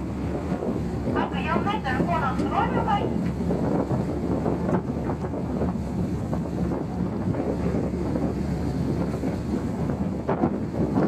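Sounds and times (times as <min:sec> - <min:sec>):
ferry engine rumble: 0:00.0 - 0:11.0
water noise: 0:00.0 - 0:11.0
wind buffeting microphone: 0:00.0 - 0:11.0.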